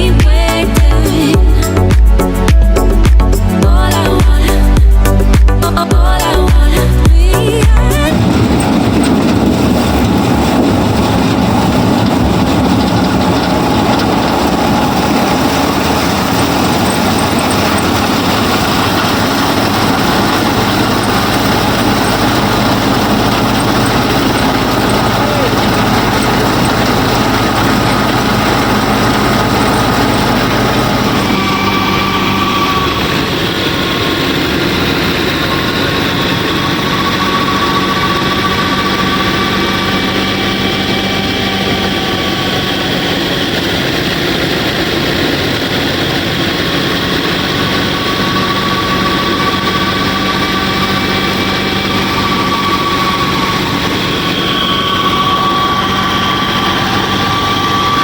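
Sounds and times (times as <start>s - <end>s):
small motor humming and whining: 8.1s - 58.0s.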